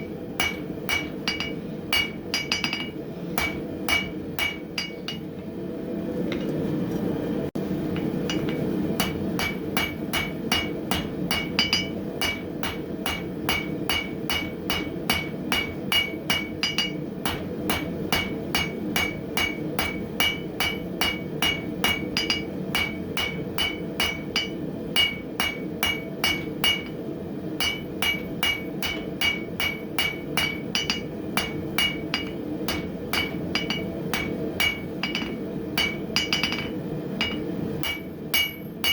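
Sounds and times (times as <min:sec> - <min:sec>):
hammer striking metal on anvil: 0:00.0 - 0:05.4, 0:07.9 - 0:27.0, 0:27.6 - 0:38.9.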